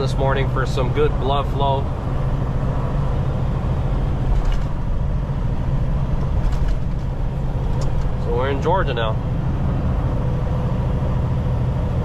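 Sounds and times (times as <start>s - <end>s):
road and tyre noise: 0.0s - 12.0s
truck engine drone: 0.0s - 12.0s.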